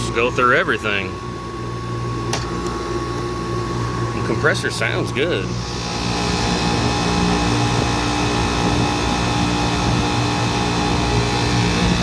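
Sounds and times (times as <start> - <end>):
compressor hum: 0.0 - 12.0
condenser fan whooshing: 0.0 - 12.0.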